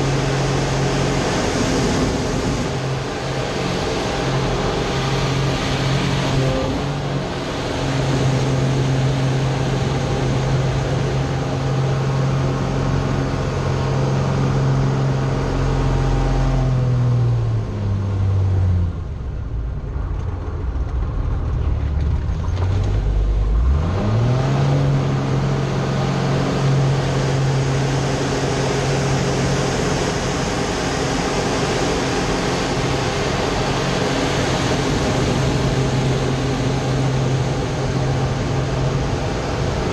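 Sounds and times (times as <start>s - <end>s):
plane engine and propeller: 0.0s - 39.9s.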